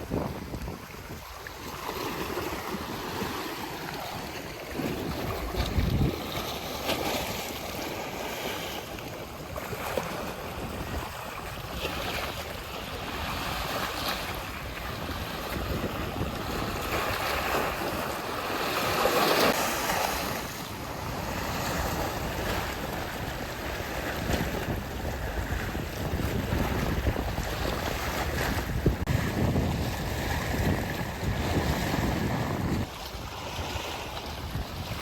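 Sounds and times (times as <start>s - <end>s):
sea waves washing ashore: 0.0s - 35.0s
wind buffeting microphone: 0.0s - 35.0s.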